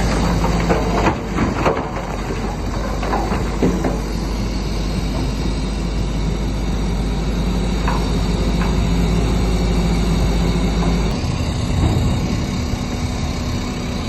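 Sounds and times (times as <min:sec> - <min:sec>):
bulldozer engine running: 0:00.0 - 0:14.0.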